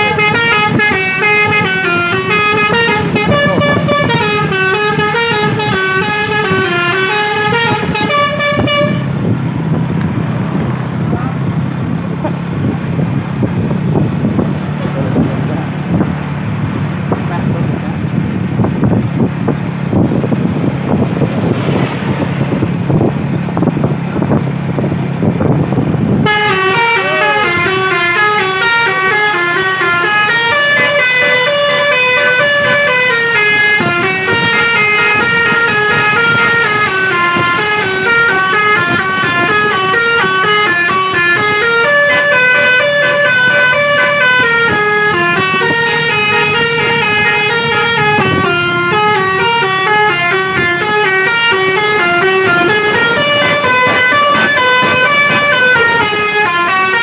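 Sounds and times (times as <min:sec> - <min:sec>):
bus engine rumble: 0:00.0 - 0:57.0
bus multi-tone horn melody: 0:00.0 - 0:57.0.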